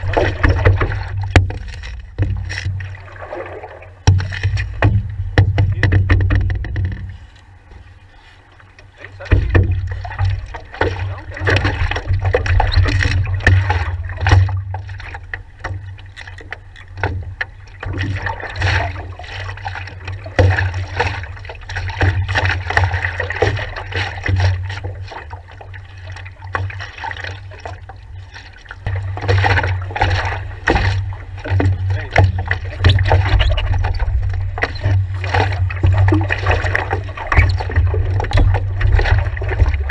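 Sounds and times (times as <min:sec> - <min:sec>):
paddle strokes: 0:00.0 - 0:39.9
water sloshing and splashing: 0:00.0 - 0:39.9.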